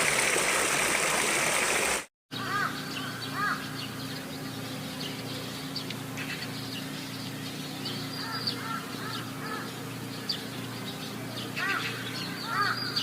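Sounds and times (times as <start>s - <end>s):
steady low hum: 2.4s - 13.0s.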